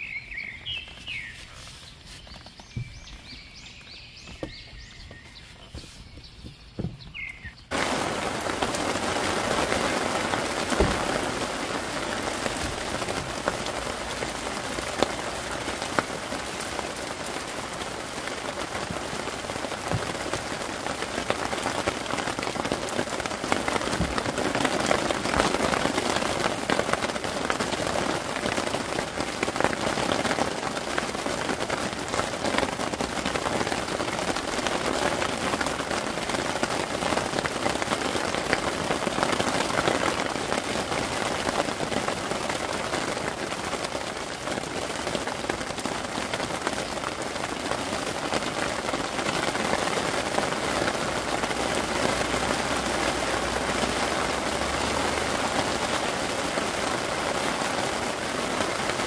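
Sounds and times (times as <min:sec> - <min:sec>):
heavy rain pouring: 0:00.0 - 0:05.5, 0:06.4 - 0:59.0.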